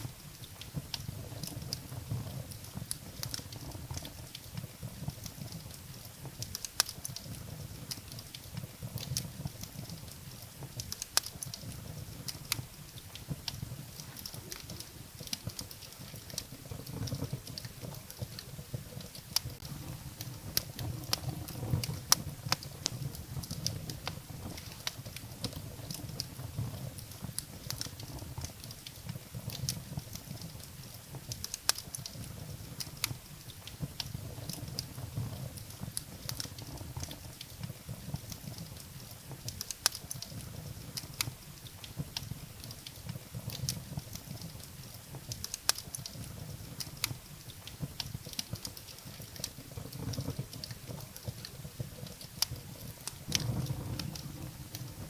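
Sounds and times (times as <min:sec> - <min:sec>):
firewood crackling and popping: 0:00.0 - 0:55.0
low rush of flames: 0:00.0 - 0:55.0.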